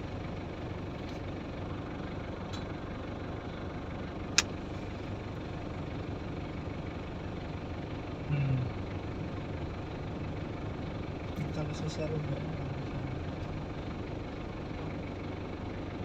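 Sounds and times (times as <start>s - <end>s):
vehicle engines idling: 0.0s - 16.0s.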